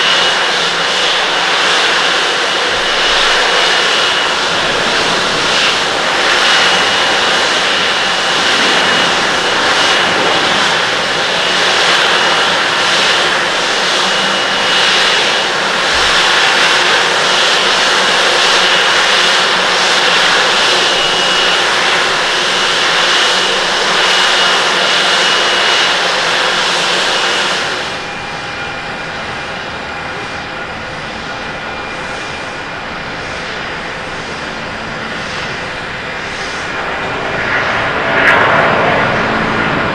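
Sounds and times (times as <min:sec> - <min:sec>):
jet engines taxiing: 0:00.0 - 0:39.9
quieter jet engine noise: 0:00.0 - 0:39.9.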